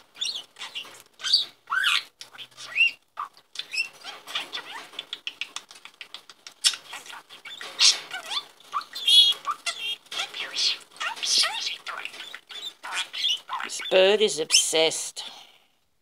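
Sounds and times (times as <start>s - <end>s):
budgerigar chattering: 0.2s - 14.7s.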